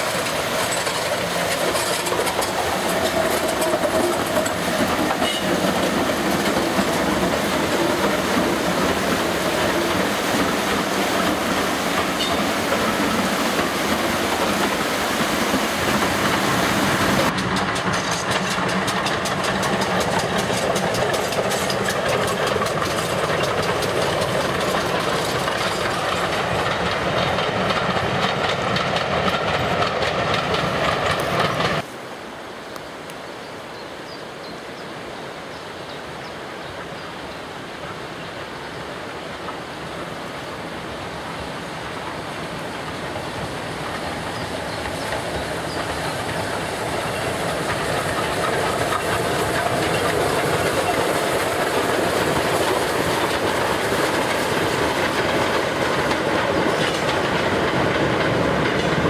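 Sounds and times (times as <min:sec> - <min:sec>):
steam engine approaching: 0:00.0 - 0:31.9, 0:37.9 - 0:59.0
steam locomotives passing: 0:00.0 - 0:32.5, 0:34.0 - 0:59.0.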